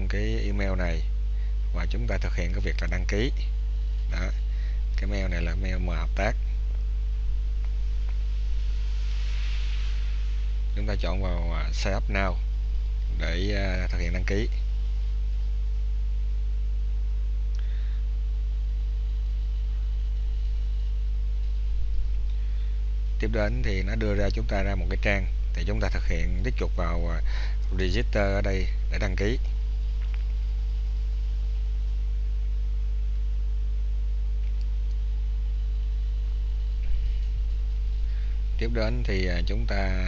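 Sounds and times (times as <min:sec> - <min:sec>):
faint hiss: 0:00.0 - 0:40.0
low electrical mains hum: 0:00.0 - 0:40.0.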